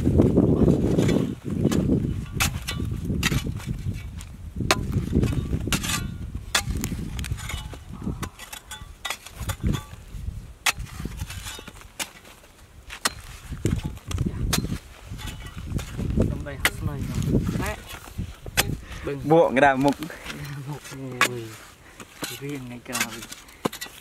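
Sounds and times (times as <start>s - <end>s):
spade chopping into dry mud: 0.9s - 10.0s, 10.6s - 17.8s, 18.5s - 19.0s, 21.0s - 24.0s.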